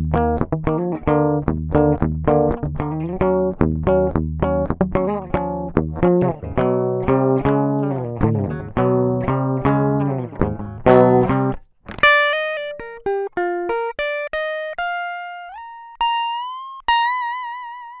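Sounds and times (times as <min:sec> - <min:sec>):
electric guitar notes: 0:00.0 - 0:18.0.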